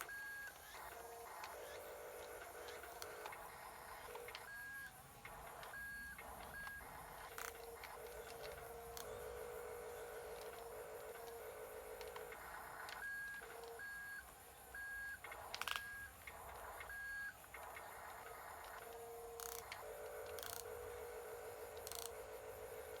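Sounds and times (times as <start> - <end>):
faint clicks: 0.0 - 13.9, 15.2 - 22.9.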